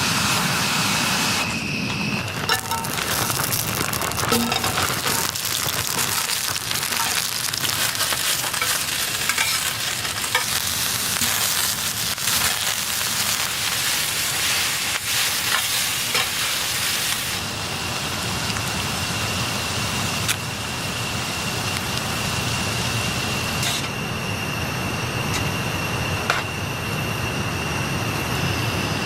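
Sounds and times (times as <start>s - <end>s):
food sizzling in a pan: 0.0s - 23.8s.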